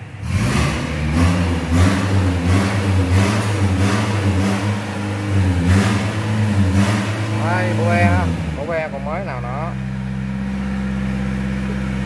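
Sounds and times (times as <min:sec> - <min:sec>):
diesel engine starting and running: 0:00.0 - 0:12.0.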